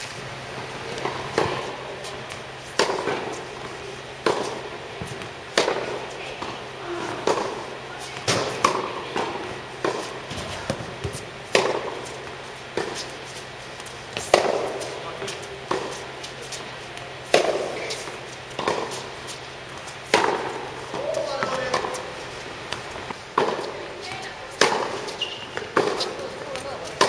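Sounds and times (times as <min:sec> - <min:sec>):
racket hitting tennis ball: 0:00.0 - 0:27.0
tennis ball bouncing: 0:00.4 - 0:27.0.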